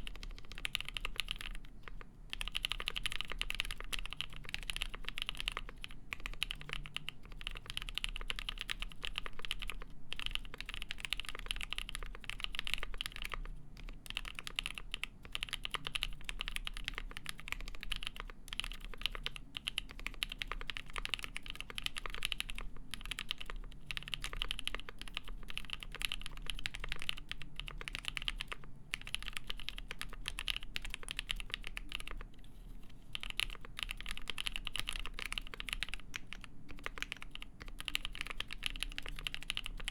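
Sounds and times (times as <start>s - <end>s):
fast typing on mechanical keyboard: 0.0s - 32.3s, 33.1s - 39.9s.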